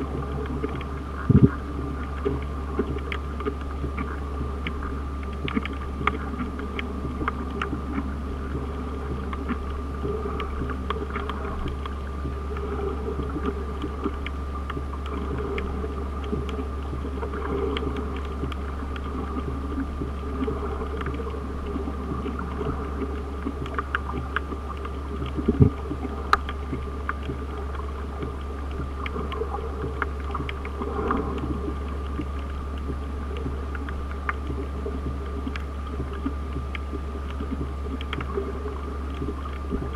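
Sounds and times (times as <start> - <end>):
faint hum: 0.0 - 39.9
muffled low underwater rumble: 0.0 - 39.9
small underwater clicks and crackles: 0.0 - 39.9.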